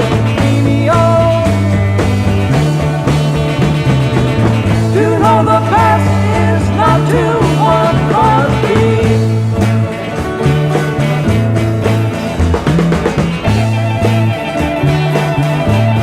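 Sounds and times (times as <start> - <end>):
bass line: 0.0 - 16.0
lead guitar bending notes: 0.0 - 16.0.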